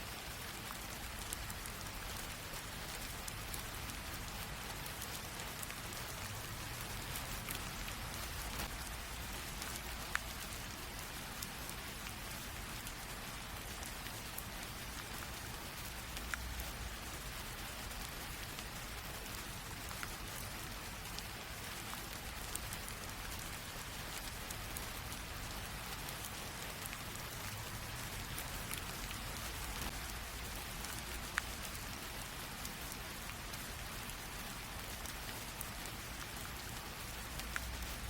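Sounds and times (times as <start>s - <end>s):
light rain drizzle: 0.0s - 38.0s
raindrop ticks: 0.1s - 38.0s.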